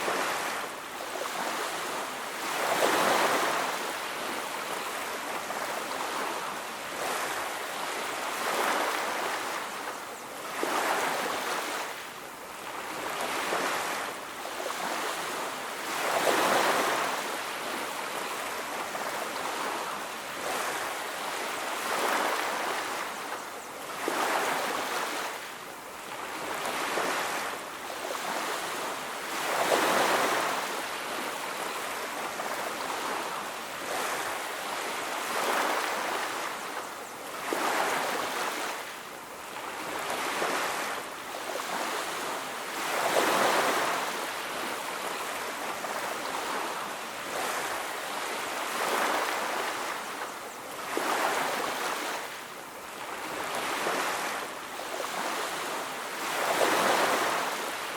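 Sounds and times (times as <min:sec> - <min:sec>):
ocean waves on a beach: 0:00.0 - 0:57.9.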